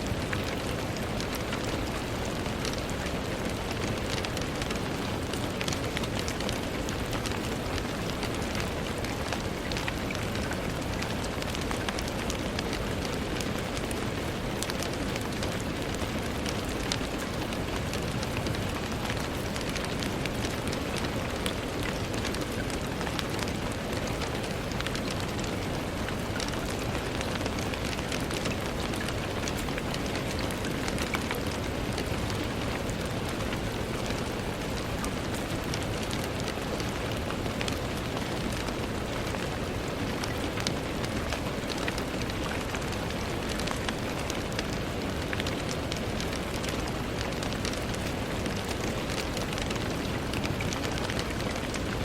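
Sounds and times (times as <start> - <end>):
rain on a window: 0.0 - 52.0.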